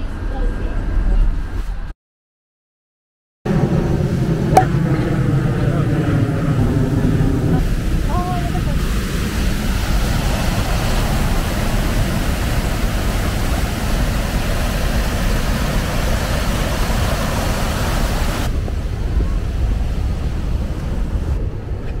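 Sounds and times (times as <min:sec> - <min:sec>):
vehicle rumbling drone: 0:03.5 - 0:22.0.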